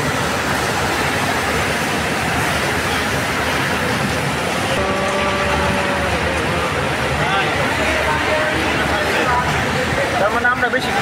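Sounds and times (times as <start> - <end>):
train rushing: 0.0 - 11.0.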